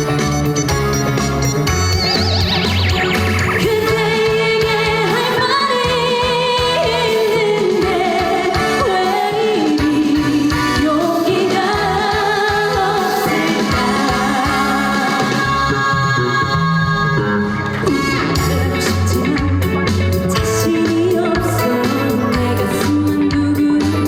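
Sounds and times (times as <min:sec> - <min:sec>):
backing track music: 0:00.0 - 0:24.0
woman singing: 0:03.6 - 0:24.0.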